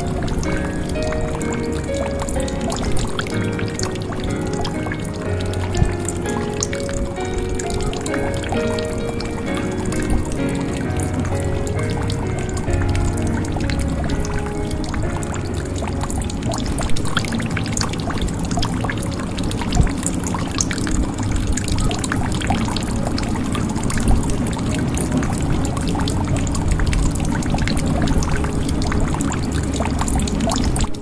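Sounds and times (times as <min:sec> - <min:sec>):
drips and splashes: 0:00.0 - 0:31.0
water pouring into a jug: 0:00.0 - 0:31.0.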